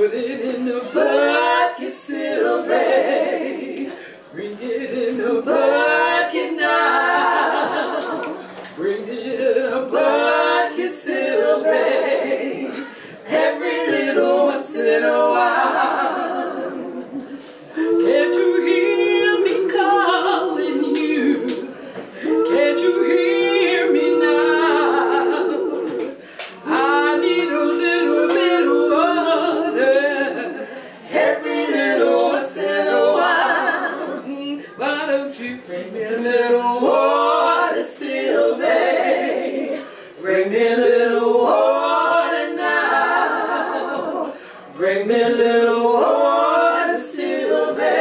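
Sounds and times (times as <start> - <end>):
women singing a cappella harmony: 0.0 - 48.0.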